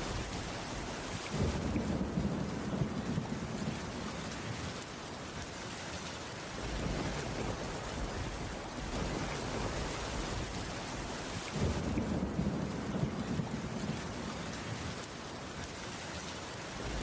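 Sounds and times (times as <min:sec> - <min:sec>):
rain on a wooden roof: 0:00.0 - 0:17.0.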